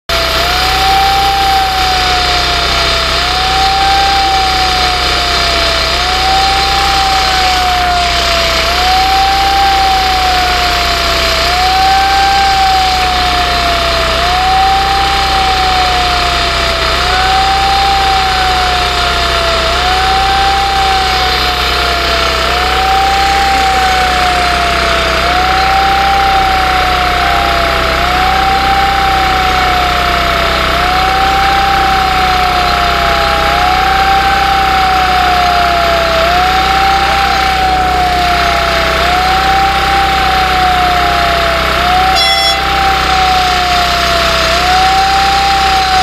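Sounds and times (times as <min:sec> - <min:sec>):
heavy machinery running: 0:00.1 - 0:46.0
rising and sinking whine: 0:00.1 - 0:46.0.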